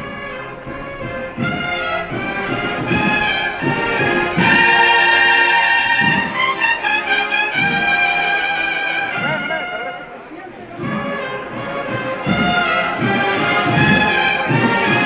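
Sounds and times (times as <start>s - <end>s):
brass band playing march: 0.0s - 15.0s.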